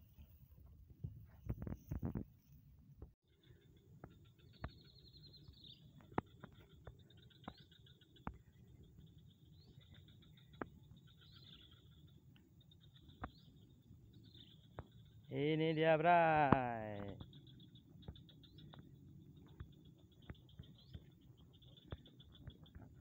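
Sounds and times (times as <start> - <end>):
small birds chirping: 3.3 - 23.0.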